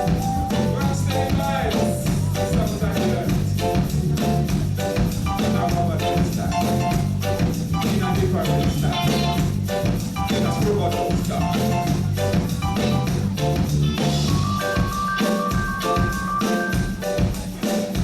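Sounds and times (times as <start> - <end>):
keyboard chords: 0.0 - 18.0
reggae band playing: 0.0 - 18.0.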